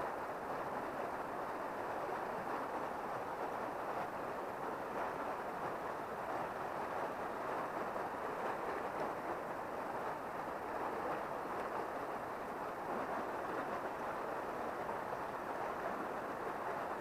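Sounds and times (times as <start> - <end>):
river water flowing over stones: 0.0 - 17.0.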